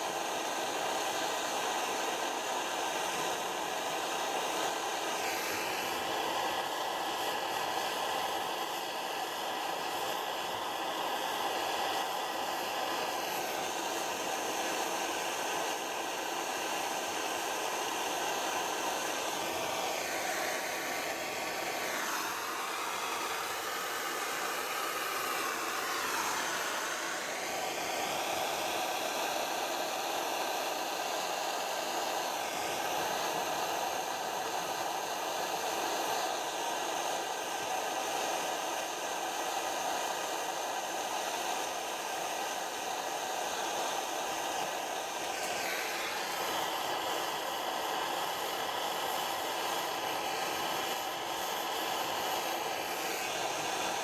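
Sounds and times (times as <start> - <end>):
blow lamp flame hissing: 0.0 - 54.0.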